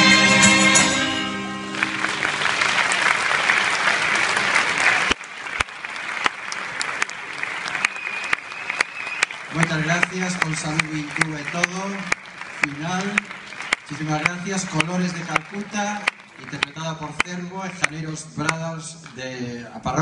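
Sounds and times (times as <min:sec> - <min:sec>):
audience applause: 0:00.6 - 0:18.6.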